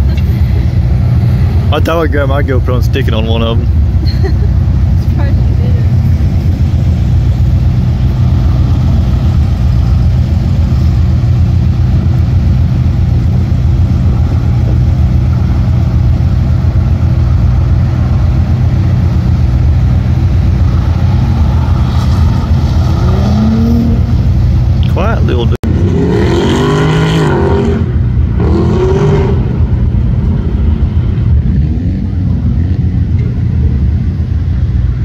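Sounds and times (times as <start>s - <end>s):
car engine idling: 0.0s - 25.8s, 27.8s - 35.0s
race car accelerating: 0.0s - 35.0s.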